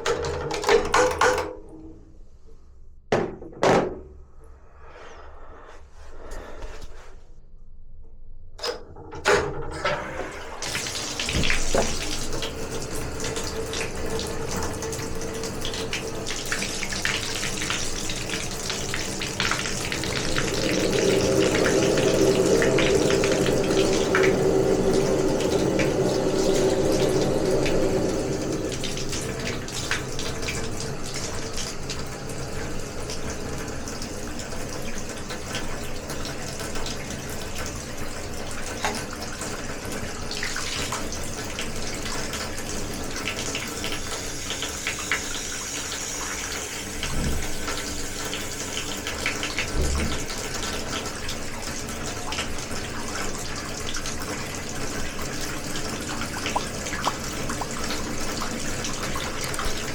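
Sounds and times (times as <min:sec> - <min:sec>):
water running from a tap: 0:09.9 - 0:59.9.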